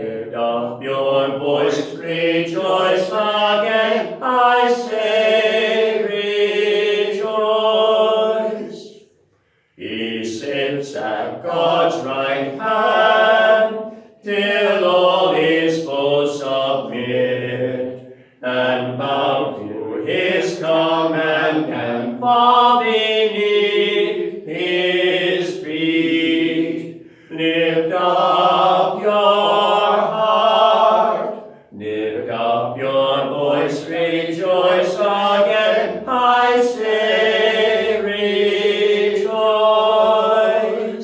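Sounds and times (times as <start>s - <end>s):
voices singing: 0.0s - 41.0s.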